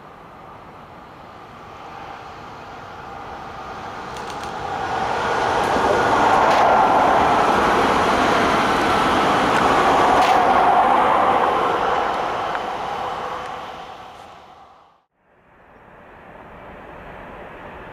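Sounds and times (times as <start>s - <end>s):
train passing at speed: 0.0s - 17.9s.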